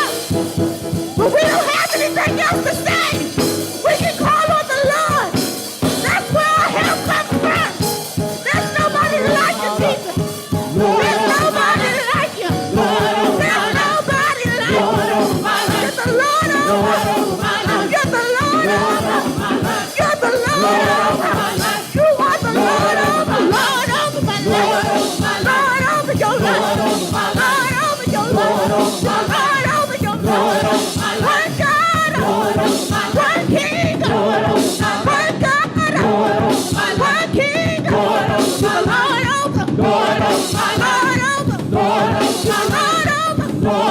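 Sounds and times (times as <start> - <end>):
live band playing a steady beat: 0.0 - 43.9
choir singing in chorus: 5.3 - 43.9.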